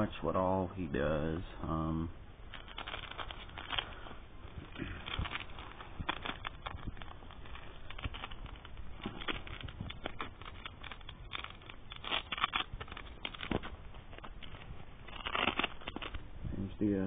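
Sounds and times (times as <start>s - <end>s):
rustling and scratching of fabric: 1.9s - 17.0s.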